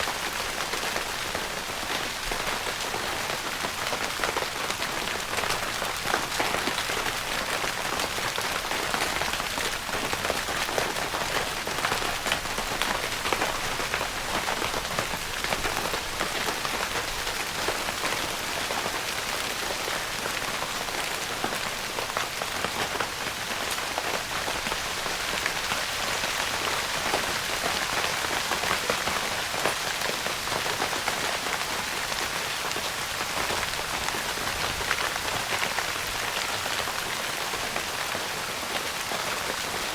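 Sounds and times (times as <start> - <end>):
rain on tent fabric: 0.0 - 39.9.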